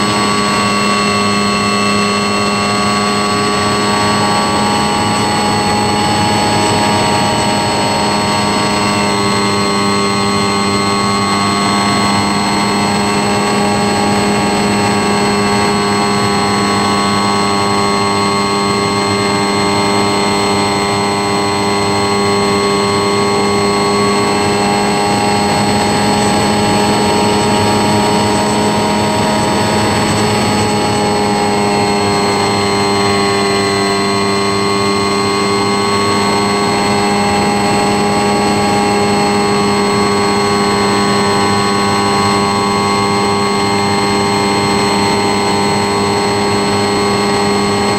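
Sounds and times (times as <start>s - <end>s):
model plane motor and propeller: 0.0s - 47.9s.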